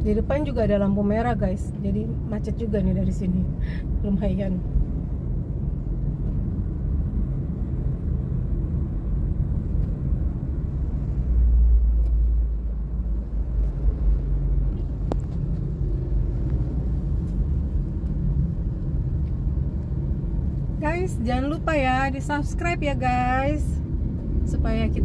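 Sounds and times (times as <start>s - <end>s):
vehicle and road rumble: 0.0s - 25.0s.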